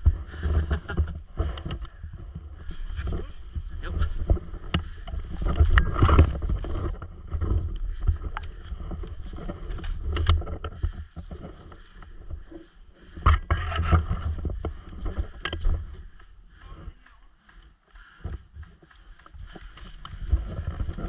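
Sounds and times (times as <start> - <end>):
camera jostling rumble: 0.0 - 17.3, 18.0 - 21.0.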